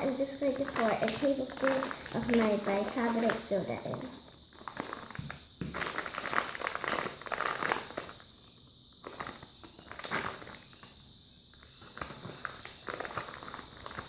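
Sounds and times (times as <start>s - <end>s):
crinkling and rustling: 0.0s - 8.4s, 9.0s - 14.0s.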